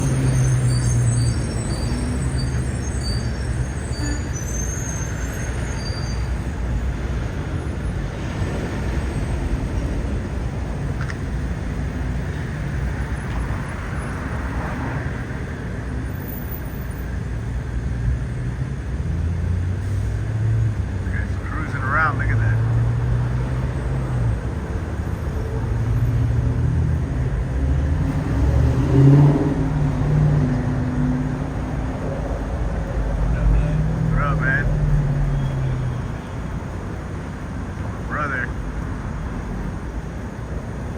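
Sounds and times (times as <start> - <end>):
outdoor rumble and hiss: 4.2 - 40.9.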